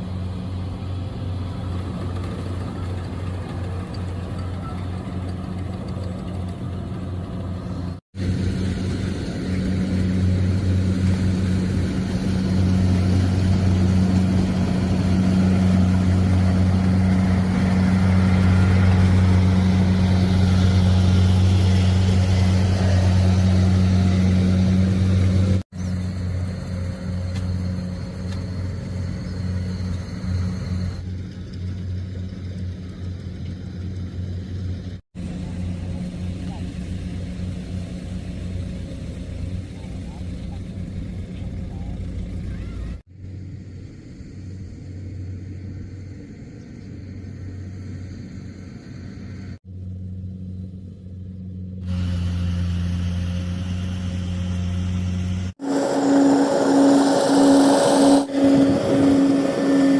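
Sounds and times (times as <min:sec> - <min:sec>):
combine harvester engine humming: 0:00.0 - 0:59.9.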